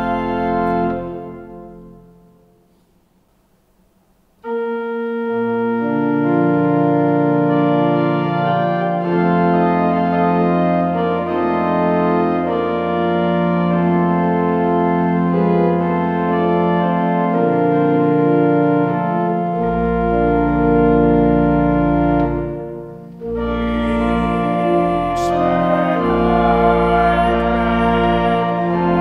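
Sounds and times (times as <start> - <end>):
organ playing slow chords: 0.0 - 2.8, 4.2 - 29.0.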